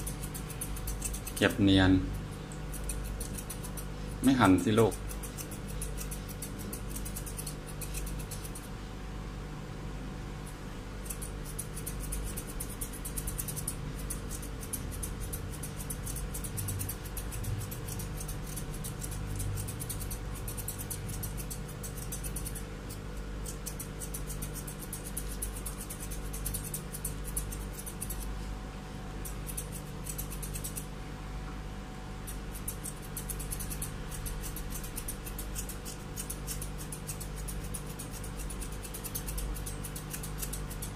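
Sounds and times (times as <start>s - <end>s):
scissors snipping fur: 0.0s - 8.8s, 10.4s - 28.4s, 29.2s - 30.9s, 32.2s - 40.9s
steady low hum: 0.0s - 40.9s.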